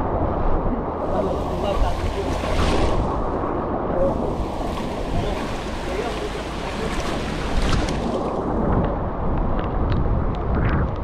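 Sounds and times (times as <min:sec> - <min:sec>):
rushing storm noise: 0:00.0 - 0:11.0.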